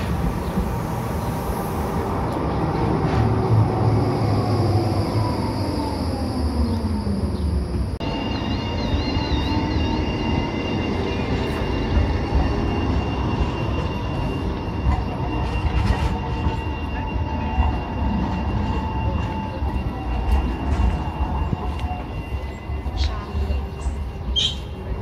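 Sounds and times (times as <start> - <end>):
tram running noise: 0.0 - 25.0
tram wheels squealing: 0.0 - 25.0.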